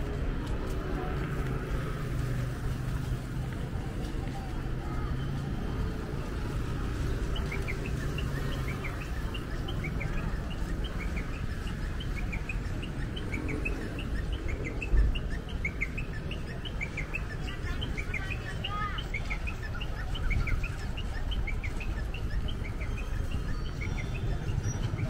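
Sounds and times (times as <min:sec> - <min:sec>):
road traffic rumble: 0:00.0 - 0:25.0
small birds chirping: 0:01.4 - 0:25.0.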